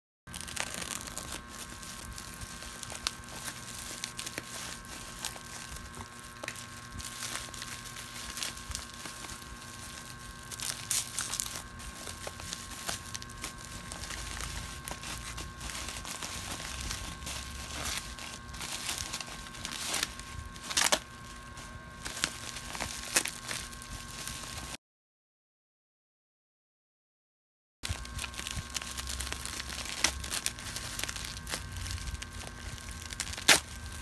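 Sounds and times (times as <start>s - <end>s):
bubble wrap mailer crinkling: 0.3s - 24.8s, 27.8s - 34.0s
ceiling fan humming: 0.3s - 24.8s, 27.9s - 34.0s.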